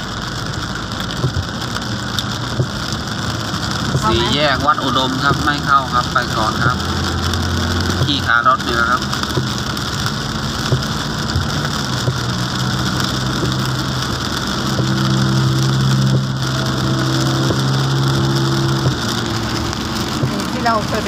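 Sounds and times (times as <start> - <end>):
car engine hum: 0.0 - 21.0
rain and tyres hissing on wet road: 0.0 - 21.0.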